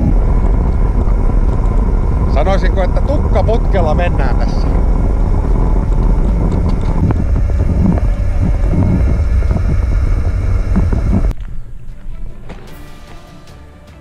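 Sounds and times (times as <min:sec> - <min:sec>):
motorcycle engine at full speed: 0:00.0 - 0:11.4
wind buffeting on microphone: 0:00.0 - 0:11.9.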